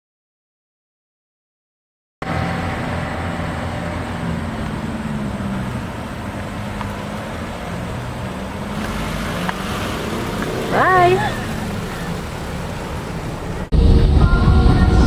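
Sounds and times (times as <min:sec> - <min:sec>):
road noise: 0:02.2 - 0:15.0
vehicle engine hum: 0:02.2 - 0:15.0.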